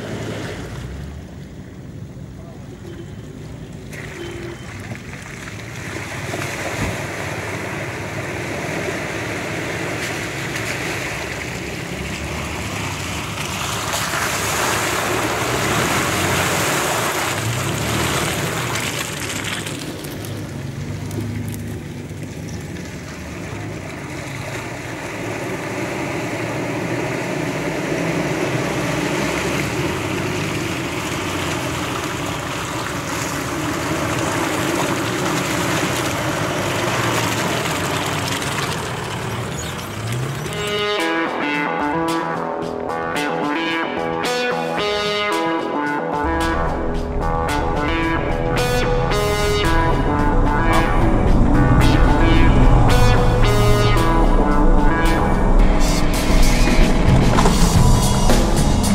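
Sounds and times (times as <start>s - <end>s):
engines running under load: 0.0s - 41.6s, 46.2s - 58.9s
water splashing around wheels: 0.0s - 41.6s, 46.3s - 58.9s.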